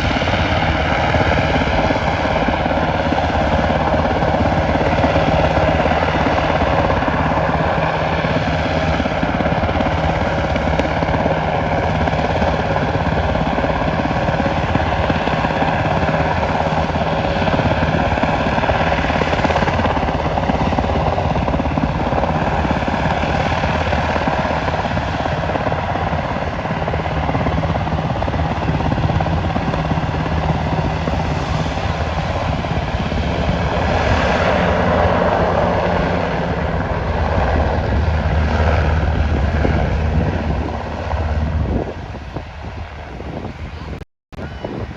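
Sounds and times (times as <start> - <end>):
helicopter engine tone: 0.0 - 44.9
helicopter rotor beating: 0.0 - 44.9.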